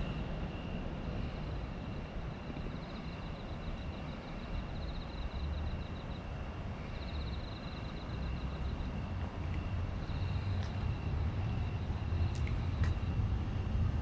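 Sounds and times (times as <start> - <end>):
low outdoor rumble: 0.0 - 14.0
night insects trilling: 0.0 - 14.0.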